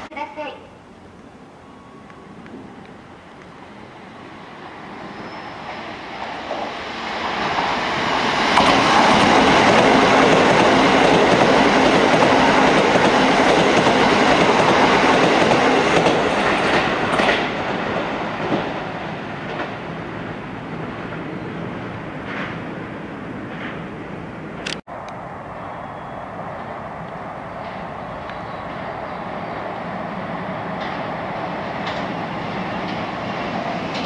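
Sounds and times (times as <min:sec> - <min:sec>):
electric train passing: 0:00.7 - 0:34.0.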